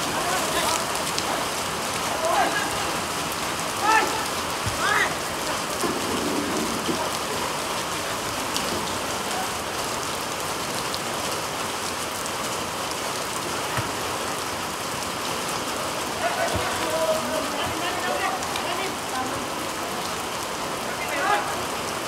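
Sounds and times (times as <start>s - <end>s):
heavy rain hiss: 0.0s - 22.0s.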